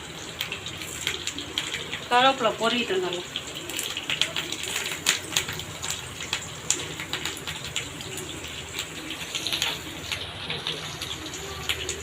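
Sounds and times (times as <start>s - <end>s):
chicken deep-frying in oil: 0.0s - 12.0s
oil crackling and popping: 0.0s - 12.0s.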